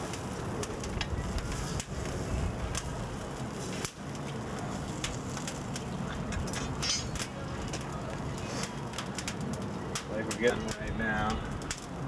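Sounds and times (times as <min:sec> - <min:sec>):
fire crackling: 0:00.0 - 0:12.0
steady rushing noise: 0:00.0 - 0:12.0.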